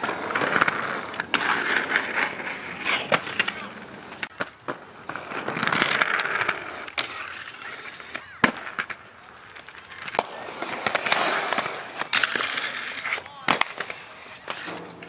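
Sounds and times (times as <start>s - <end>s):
skateboard clacks: 0.0s - 15.0s
skateboard wheels rolling on concrete: 0.0s - 15.0s.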